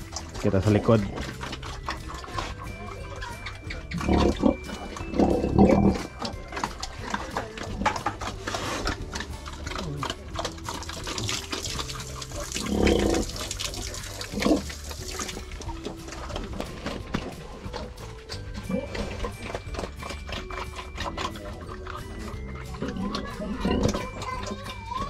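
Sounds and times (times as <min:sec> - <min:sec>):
pig grunting: 0:00.0 - 0:25.0.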